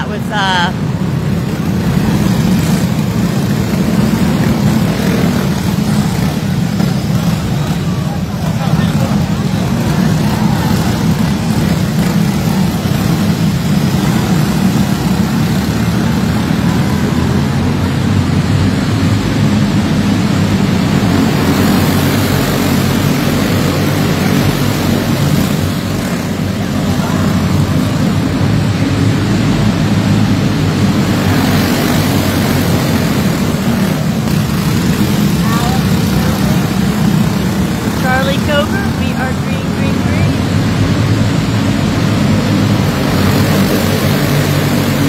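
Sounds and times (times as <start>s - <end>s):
kart engines buzzing: 0.0s - 45.0s.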